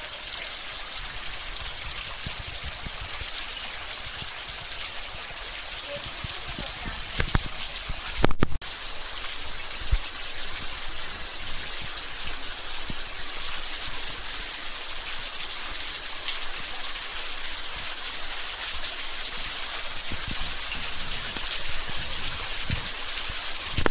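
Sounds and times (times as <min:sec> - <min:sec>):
water dripping into pool: 0:00.0 - 0:23.9.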